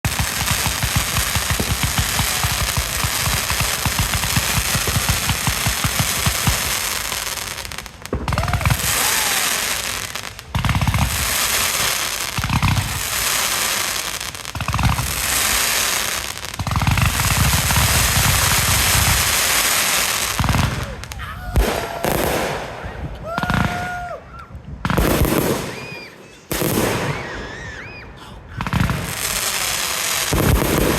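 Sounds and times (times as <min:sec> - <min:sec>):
loud crackling bangs: 0:00.0 - 0:23.9, 0:28.6 - 0:30.9.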